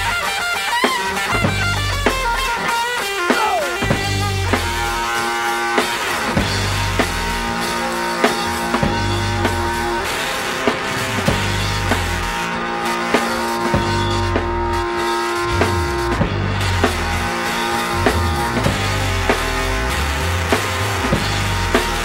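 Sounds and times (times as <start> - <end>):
electric guitar sustained notes: 0.0 - 22.0
heavy rock trio: 0.0 - 22.0.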